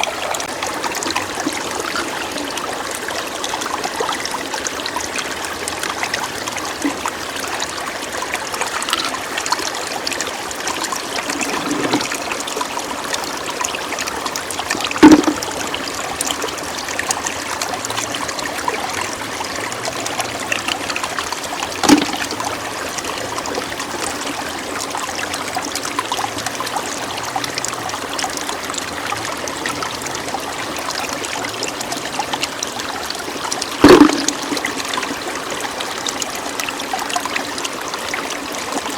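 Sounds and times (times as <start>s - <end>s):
shallow water trickling: 0.0s - 38.9s.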